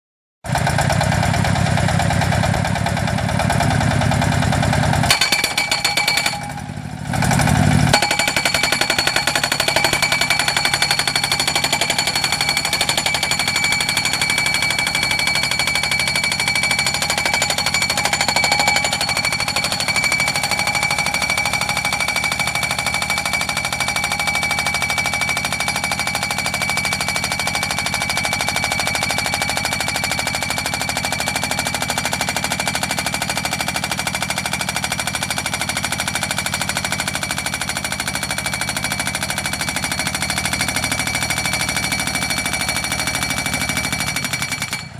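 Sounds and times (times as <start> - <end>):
pile driver hammer striking post: 4.7 - 6.8, 7.9 - 44.9.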